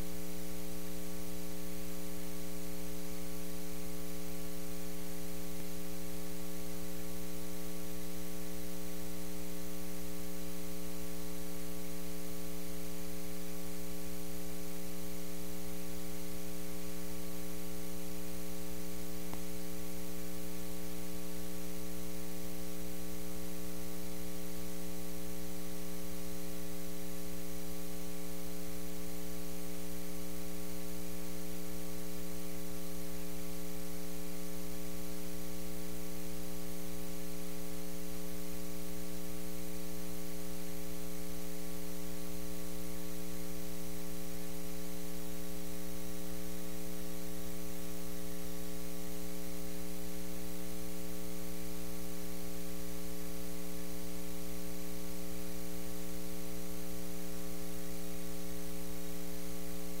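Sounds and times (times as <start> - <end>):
buzzy electrical mains hum: 0.0 - 60.0.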